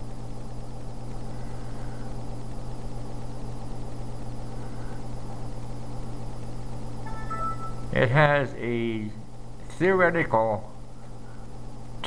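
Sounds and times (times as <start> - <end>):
computer cooling fans humming: 0.0 - 12.0.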